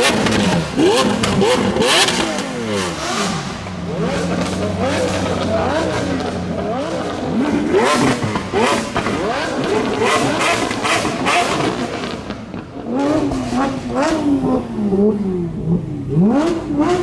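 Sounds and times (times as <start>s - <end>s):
supercar engines revving: 0.0s - 17.0s.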